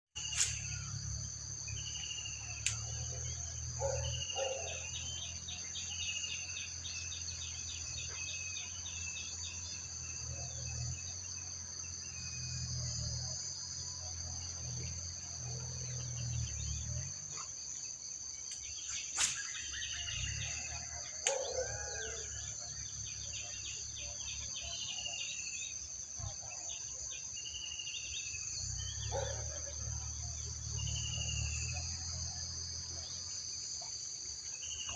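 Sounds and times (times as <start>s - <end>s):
bird chirping: 0.2s - 13.0s, 14.0s - 32.4s
insect chorus: 0.2s - 34.9s.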